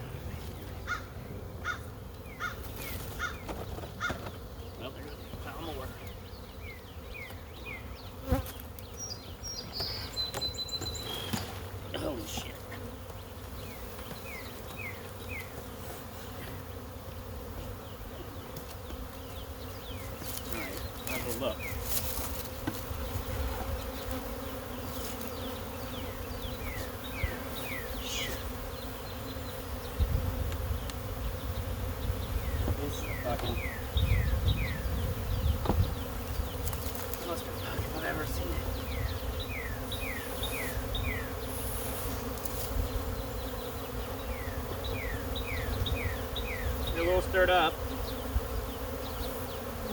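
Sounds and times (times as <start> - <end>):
bees buzzing: 0.0 - 49.9.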